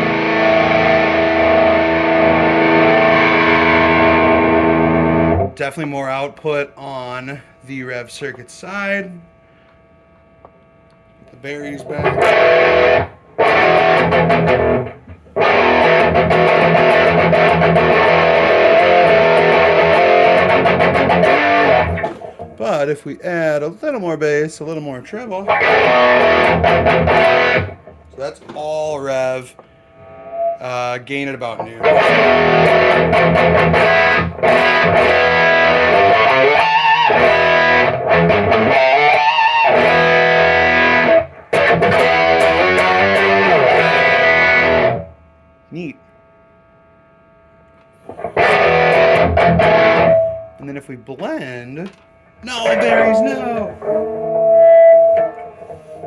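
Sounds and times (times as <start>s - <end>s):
distorted electric guitar chords: 0.0s - 23.0s, 25.1s - 46.2s, 46.9s - 56.0s.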